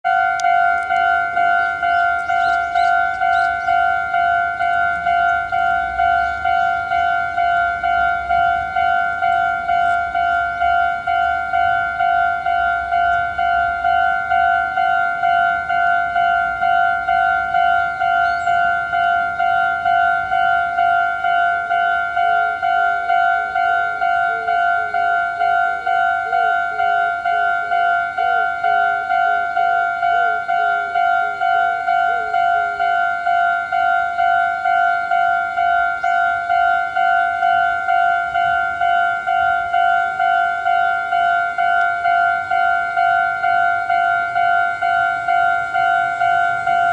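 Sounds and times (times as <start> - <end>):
level crossing warning bell: 0.0 - 46.9
faint wavering low tone: 0.3 - 46.9.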